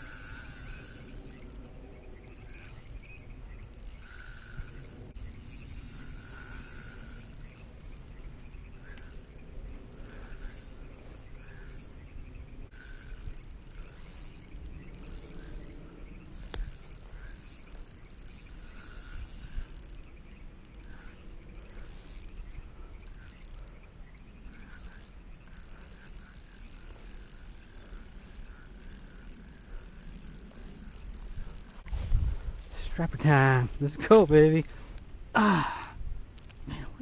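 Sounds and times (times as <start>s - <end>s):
insects calling in high bursts: 0.0s - 32.0s
faint low chirps: 0.0s - 33.8s.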